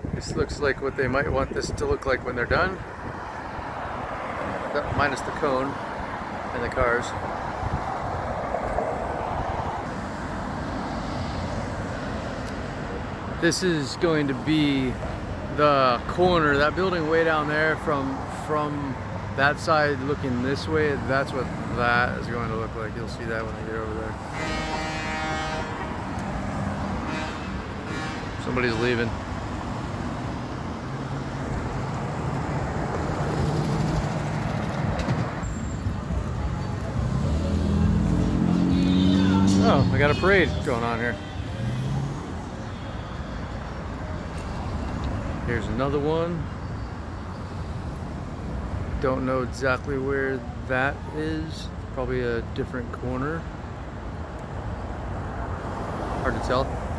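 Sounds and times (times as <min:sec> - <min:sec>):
cars driving past: 0:02.3 - 0:56.9.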